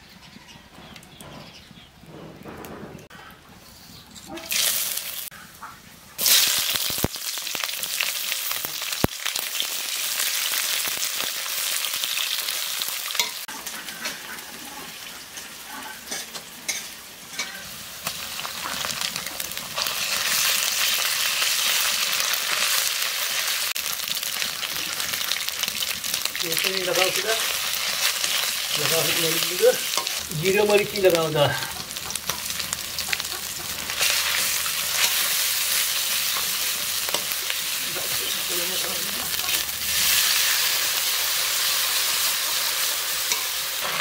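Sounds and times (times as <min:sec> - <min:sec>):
onions sizzling in hot oil: 0:04.4 - 0:05.4, 0:06.1 - 0:44.0.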